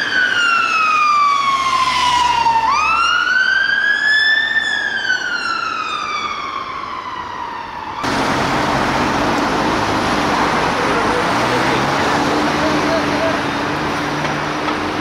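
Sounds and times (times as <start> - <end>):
fire engine siren wailing: 0.0 - 15.0
loud street traffic: 0.0 - 15.0.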